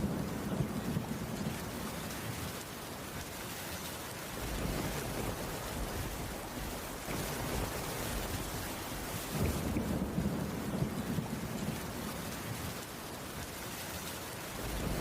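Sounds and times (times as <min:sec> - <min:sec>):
low rumble of thunder: 0:00.0 - 0:02.6, 0:04.3 - 0:13.4, 0:14.4 - 0:15.0
heavy rain on a wooden roof: 0:00.0 - 0:15.0.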